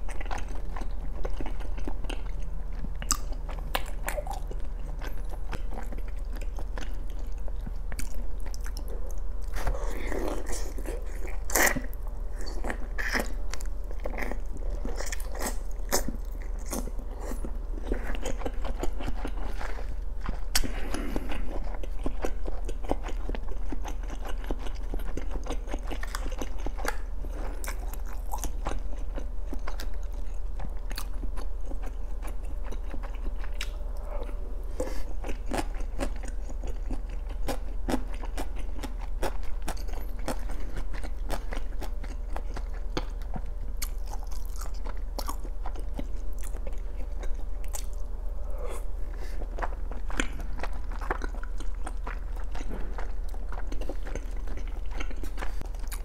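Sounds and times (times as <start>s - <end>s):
person chewing soft food: 0.0s - 56.0s.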